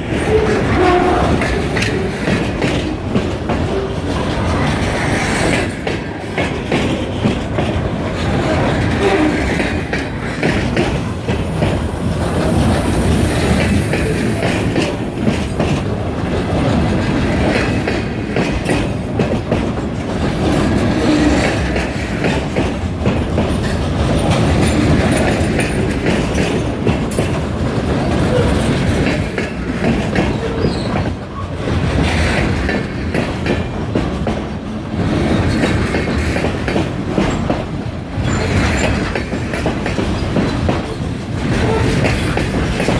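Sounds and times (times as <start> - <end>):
freight train rolling past: 0.0 - 42.9
wheels clacking over rail joints: 0.0 - 42.9.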